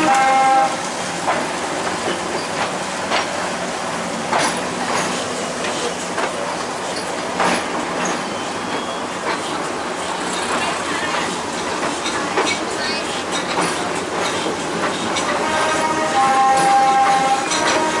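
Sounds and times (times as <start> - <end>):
train rumble: 0.0 - 18.0
wheels clacking on track: 0.0 - 18.0.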